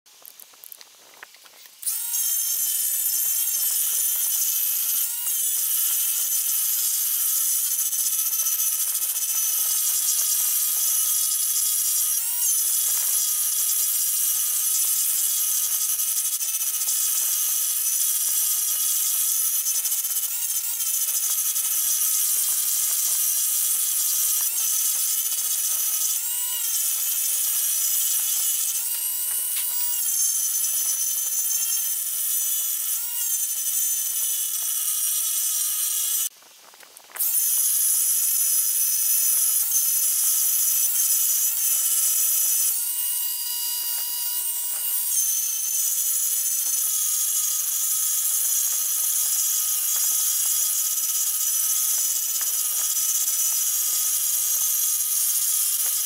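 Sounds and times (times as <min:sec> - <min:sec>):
rotary tool sanding wood: 0:01.1 - 0:36.4, 0:37.2 - 0:56.0.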